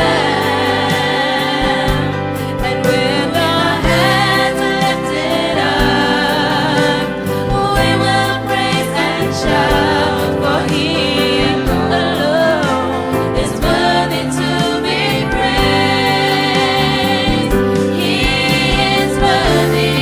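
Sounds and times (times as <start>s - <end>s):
band playing: 0.0s - 20.0s
choir singing gospel: 0.0s - 20.0s.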